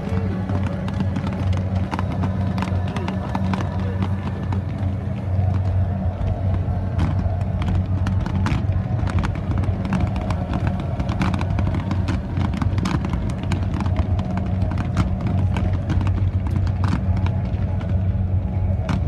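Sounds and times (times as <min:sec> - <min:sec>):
fireworks crackling and popping: 0:00.0 - 0:19.0
low engine-like drone: 0:00.0 - 0:19.0.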